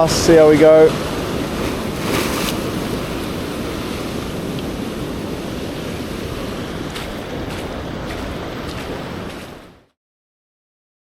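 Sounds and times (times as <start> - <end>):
surf washing over rocks: 0.0 - 9.9.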